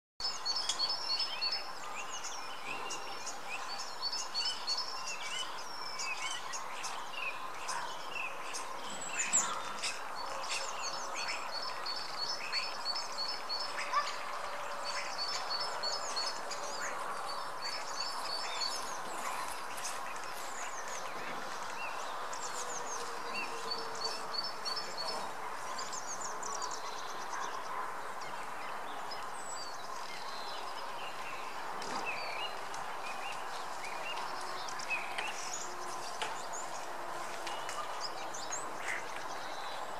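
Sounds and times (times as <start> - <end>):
songbirds chirping and trilling: 0.2 - 39.9.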